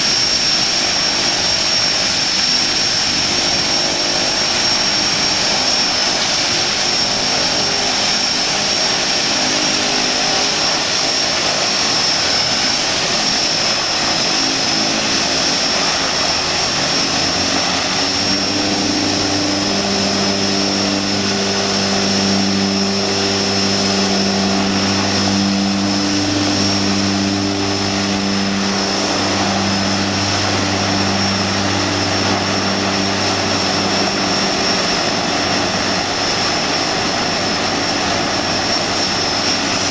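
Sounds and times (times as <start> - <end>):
low propeller drone: 0.0 - 39.9
turboprop engines idling: 0.0 - 39.9.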